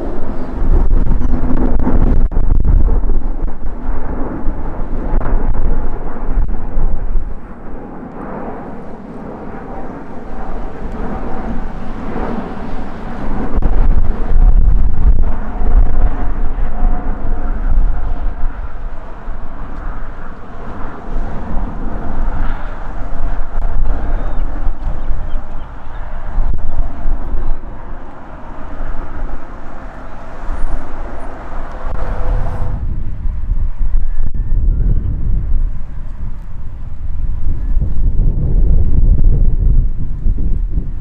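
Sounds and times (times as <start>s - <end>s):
jet engine rumble with whine: 0.0s - 41.0s
wind buffeting microphone: 0.0s - 41.0s.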